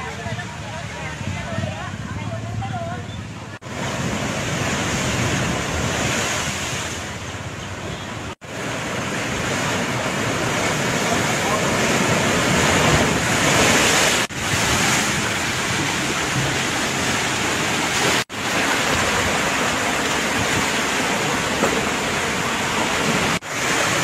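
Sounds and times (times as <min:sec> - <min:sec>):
sea surf washing ashore: 0:00.0 - 0:24.0
wind: 0:00.0 - 0:24.0.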